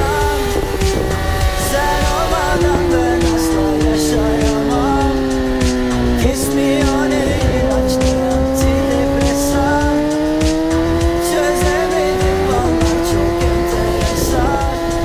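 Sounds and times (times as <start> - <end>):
motorcycle engine accelerating: 0.0 - 15.0
music with a steady beat: 0.0 - 15.0.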